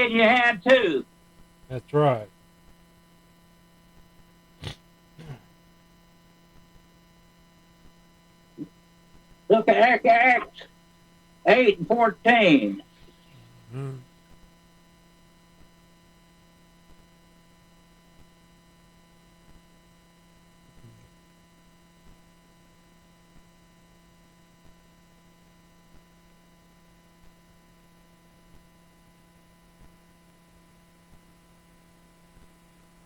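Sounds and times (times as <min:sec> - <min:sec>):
faint electrical hum: 0:00.0 - 0:33.0.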